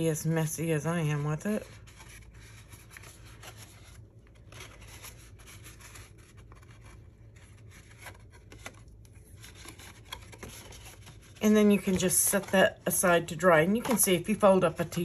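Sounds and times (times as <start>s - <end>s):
low room hum: 0.0s - 15.0s
cardstock rustling and rubbing: 0.9s - 15.0s.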